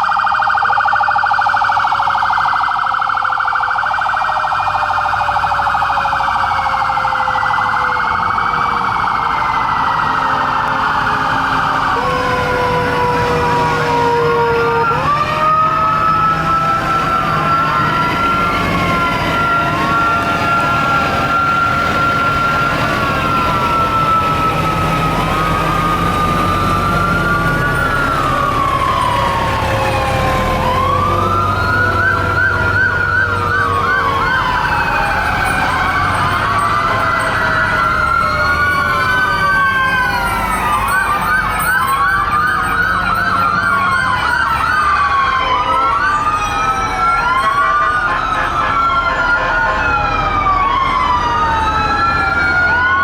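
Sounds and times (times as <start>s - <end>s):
fire truck sirens wailing: 0.0s - 53.0s.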